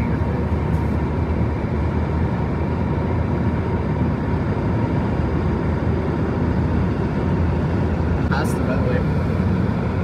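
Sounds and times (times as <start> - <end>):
aircraft engine rumbling: 0.0 - 10.0.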